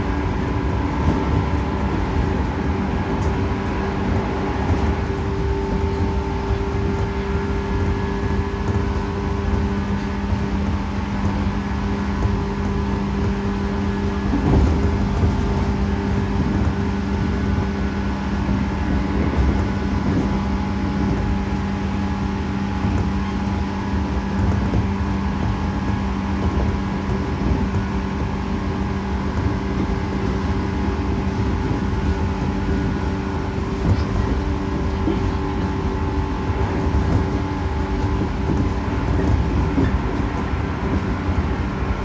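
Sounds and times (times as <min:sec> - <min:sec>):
steady train hum: 0:00.0 - 0:42.0
train wheels rumbling on rail: 0:00.0 - 0:42.0.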